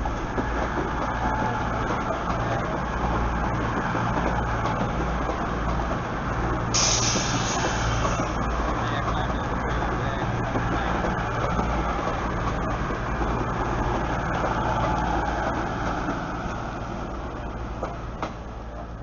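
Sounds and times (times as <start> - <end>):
diesel engines humming: 0.0 - 19.0
train rolling noise: 0.0 - 19.0.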